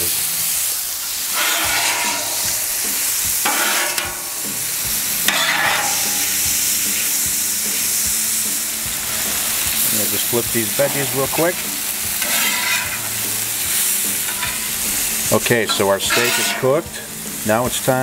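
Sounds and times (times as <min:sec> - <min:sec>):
spatulas scraping griddle: 0:00.0 - 0:17.9
steak sizzling on griddle: 0:00.0 - 0:18.0.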